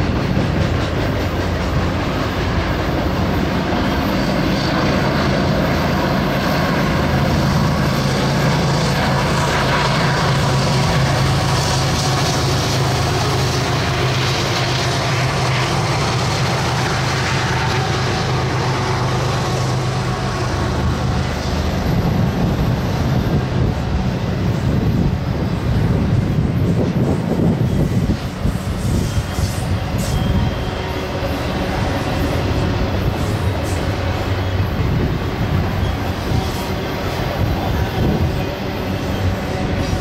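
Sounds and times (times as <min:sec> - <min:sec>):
freight train diesel drone: 0:00.0 - 0:40.0
train rolling by rumble: 0:00.0 - 0:40.0.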